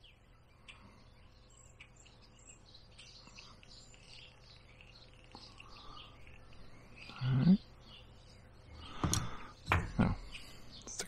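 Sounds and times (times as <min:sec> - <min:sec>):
faint songbirds chirping: 0:00.0 - 0:11.0.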